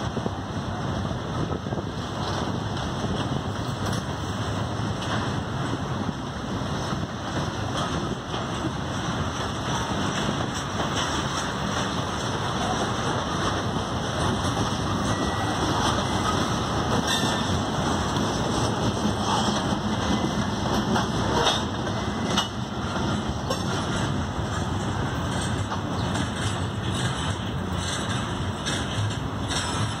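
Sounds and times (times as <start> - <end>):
freight train wheels rolling: 0.0 - 30.0.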